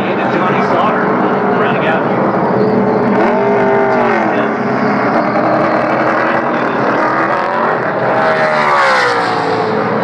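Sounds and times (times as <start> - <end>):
race truck engines roaring: 0.0 - 10.0.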